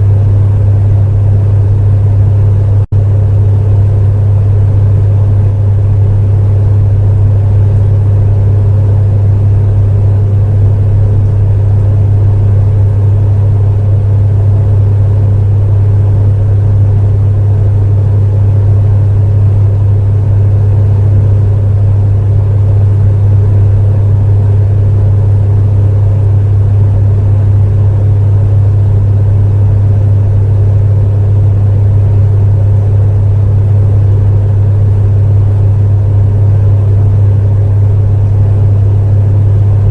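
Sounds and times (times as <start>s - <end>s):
space heater humming: 0.0s - 39.9s.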